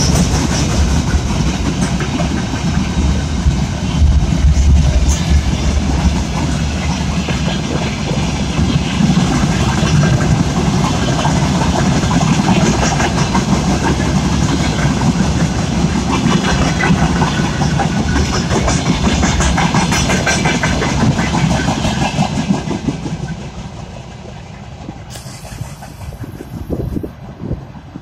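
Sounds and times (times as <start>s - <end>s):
freight train wheels clattering: 0.0s - 28.0s.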